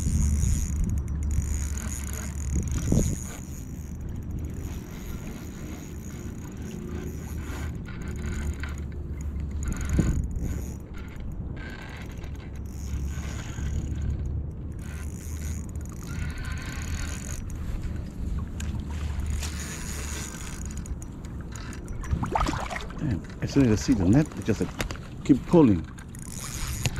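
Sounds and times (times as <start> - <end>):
fishing reel ratchet clicking: 0.0 - 22.2, 25.8 - 26.9.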